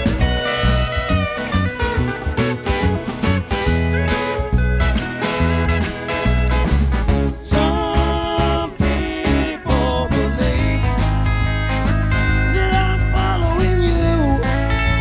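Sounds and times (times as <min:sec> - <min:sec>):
country band playing: 0:00.0 - 0:15.0
guitar melody: 0:00.0 - 0:15.0.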